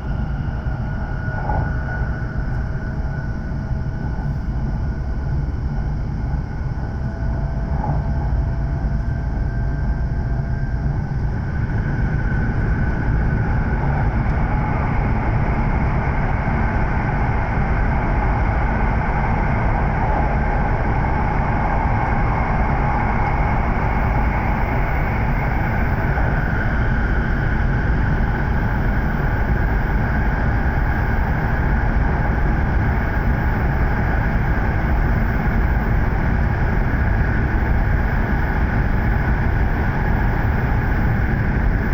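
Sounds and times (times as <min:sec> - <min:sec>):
faint whining tones: 0:00.0 - 0:41.9
train wheels rumbling on rail: 0:00.0 - 0:41.9.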